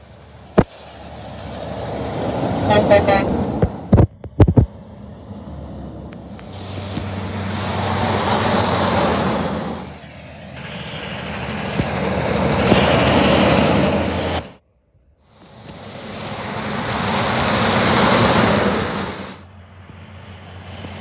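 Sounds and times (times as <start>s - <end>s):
trucks passing on highway: 0.0s - 21.0s.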